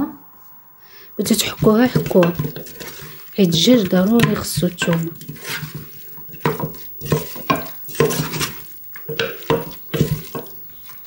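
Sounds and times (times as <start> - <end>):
wet food mix squishing: 1.2 - 11.0
metal spoon scraping a pot: 1.3 - 10.6.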